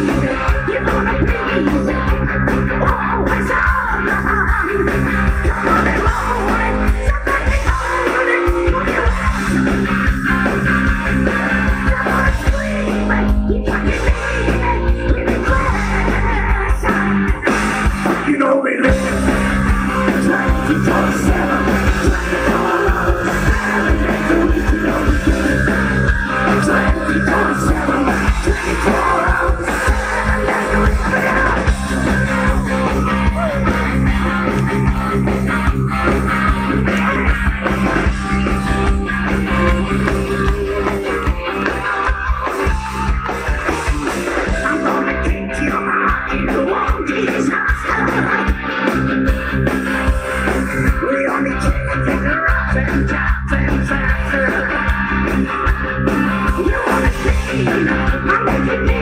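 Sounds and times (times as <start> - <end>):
live heavy metal band playing: 0.0 - 59.0.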